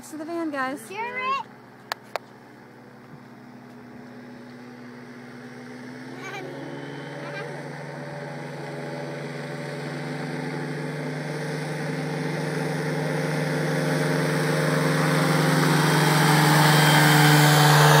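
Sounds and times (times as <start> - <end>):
engine and propeller running: 0.0 - 18.0.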